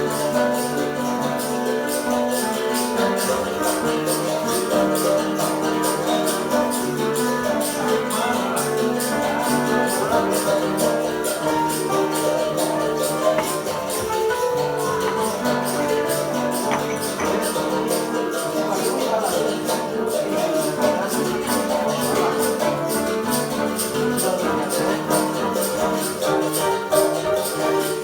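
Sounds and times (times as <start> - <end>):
berimbau: 0.0 - 28.0
piano chords: 0.0 - 28.0
basket shakers rattling: 2.8 - 28.0.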